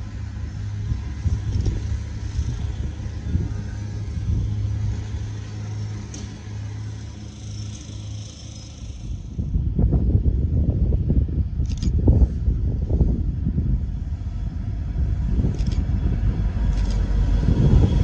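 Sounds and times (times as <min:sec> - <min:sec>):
low hum: 0:00.0 - 0:18.0
train wheels rumbling on rail: 0:00.0 - 0:18.0.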